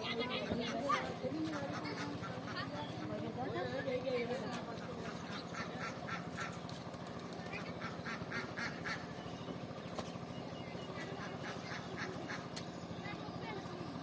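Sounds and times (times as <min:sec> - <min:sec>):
birds harsh calls: 0:00.0 - 0:14.0
steady low hum: 0:00.0 - 0:14.0.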